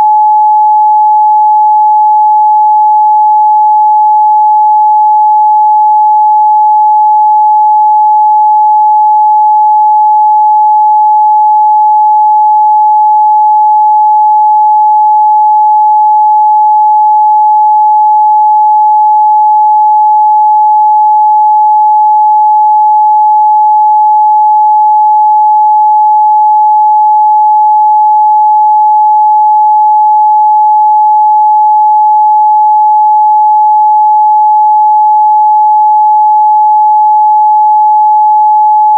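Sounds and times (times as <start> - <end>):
sine wave test tone: 0.0 - 38.9.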